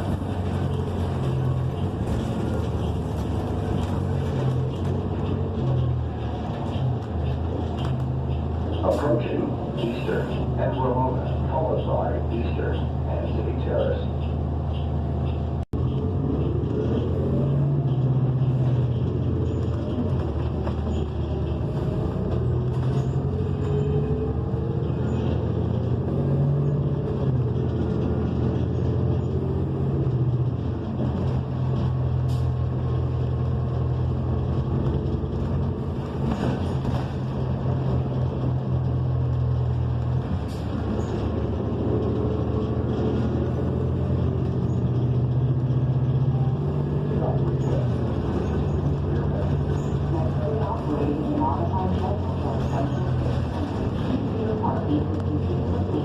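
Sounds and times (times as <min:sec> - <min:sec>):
bus engine whine: 0:00.0 - 0:56.0
road noise: 0:00.0 - 0:56.0.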